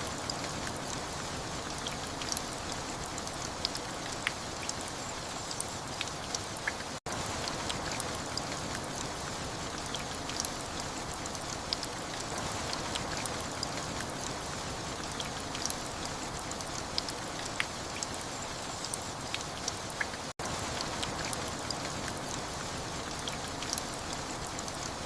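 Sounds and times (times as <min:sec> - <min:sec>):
raindrops ticking on surface: 0:00.0 - 0:25.0
steady rain: 0:00.0 - 0:25.0.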